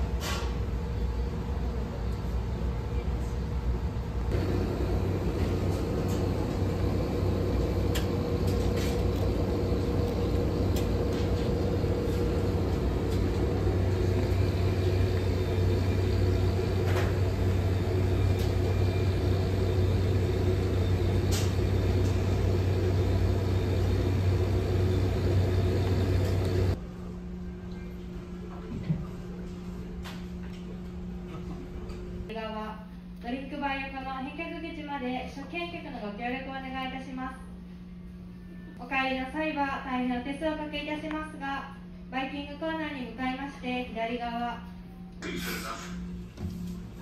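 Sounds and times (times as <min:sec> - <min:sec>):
low machinery hum: 0:00.0 - 0:47.0.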